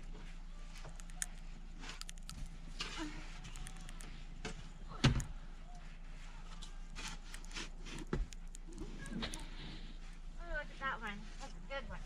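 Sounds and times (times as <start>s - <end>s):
light clicks and scrapes: 0.1s - 10.2s.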